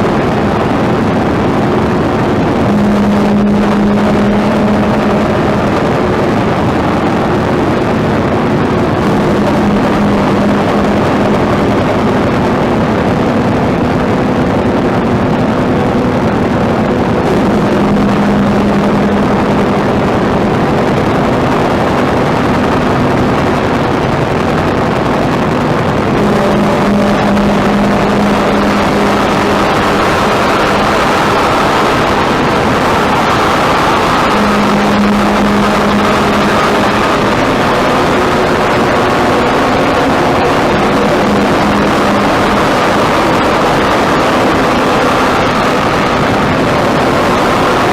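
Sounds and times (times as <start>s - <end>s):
dense wall of noise music: 0.0s - 47.9s
higher drone: 0.0s - 47.9s
low drone: 0.0s - 47.9s.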